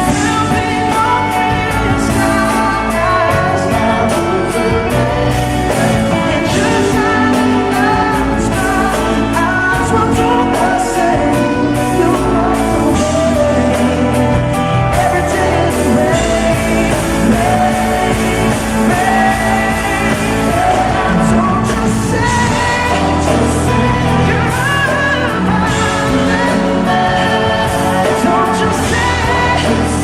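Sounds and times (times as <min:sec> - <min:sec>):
live pop ballad with band: 0:00.0 - 0:30.0
person singing lead vocal: 0:00.0 - 0:30.0.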